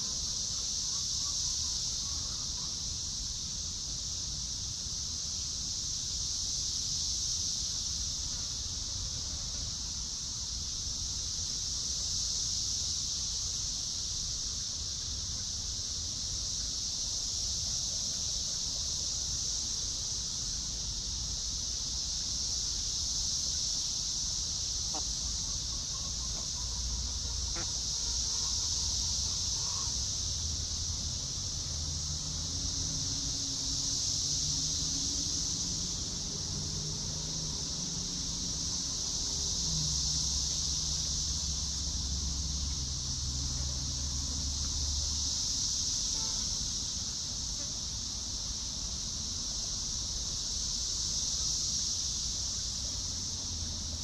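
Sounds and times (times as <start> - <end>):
insect chorus buzzing: 0.0 - 54.0.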